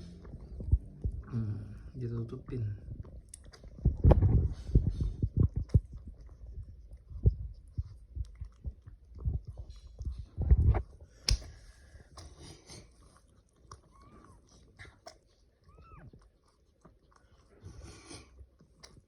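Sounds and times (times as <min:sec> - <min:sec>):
cat licking and chewing: 0:00.0 - 0:19.0.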